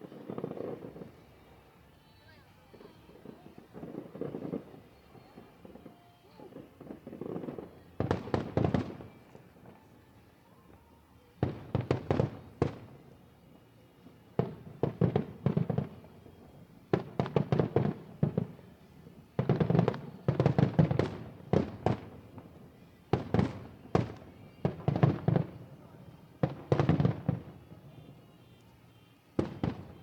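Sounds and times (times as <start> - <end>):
fireworks booming and cracking: 0.0 - 1.7, 2.7 - 30.0.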